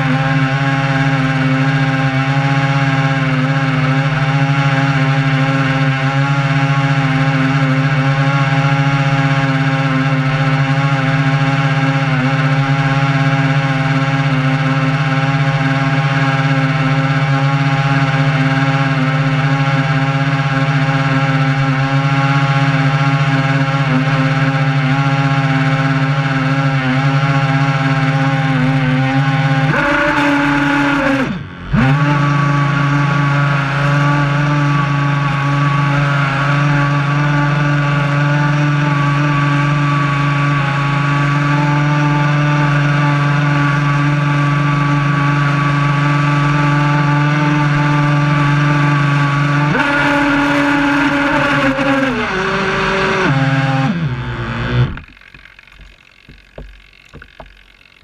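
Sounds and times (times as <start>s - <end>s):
electric motors whining: 0.0s - 58.0s.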